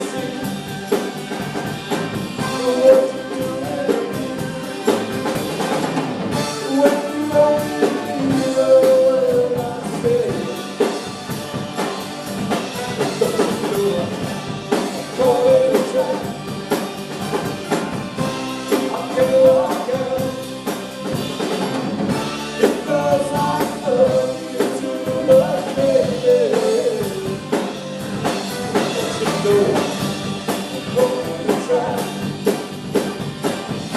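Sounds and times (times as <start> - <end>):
lead singer singing: 0.0 - 12.0, 12.6 - 16.5, 18.2 - 21.2, 22.1 - 32.7
drum kit: 0.0 - 33.9
live rock band playing: 0.0 - 33.9.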